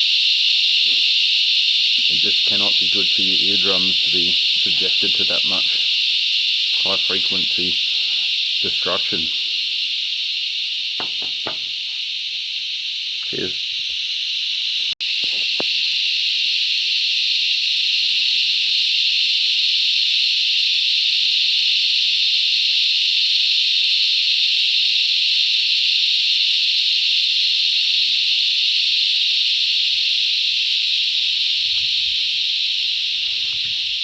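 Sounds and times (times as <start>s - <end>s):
cicadas shrilling: 0.0s - 34.0s.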